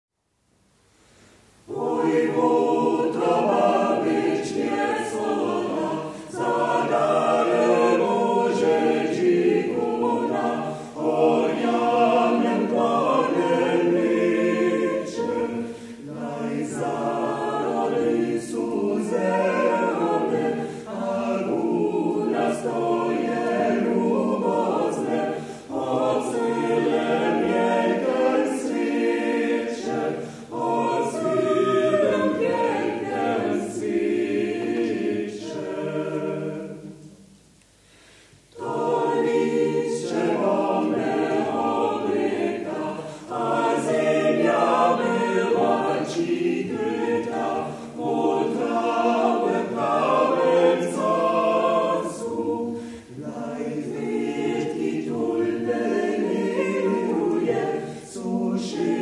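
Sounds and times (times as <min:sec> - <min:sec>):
mixed choir singing a cappella: 0:01.6 - 0:59.0.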